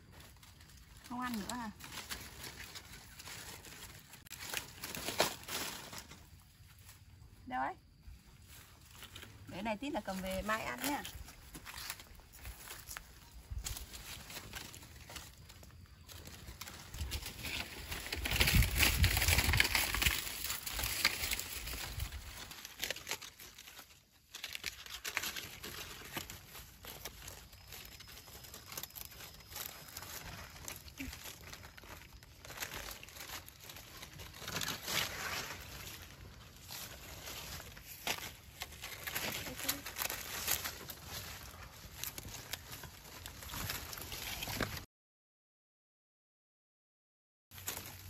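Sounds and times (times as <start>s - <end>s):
dry leaves crackling and rustling: 0.0s - 44.9s, 47.5s - 48.0s.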